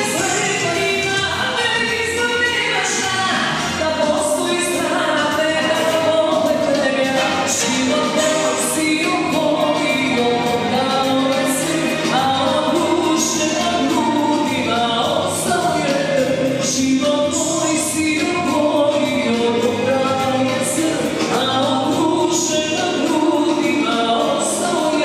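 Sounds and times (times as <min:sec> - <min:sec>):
live band playing: 0:00.0 - 0:25.0
person singing into microphone: 0:00.0 - 0:25.0.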